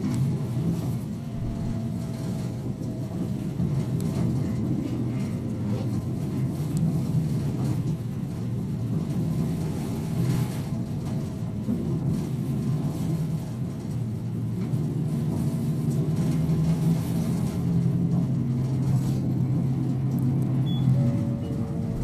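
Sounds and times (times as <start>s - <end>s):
bus diesel engine drone: 0.0s - 22.0s.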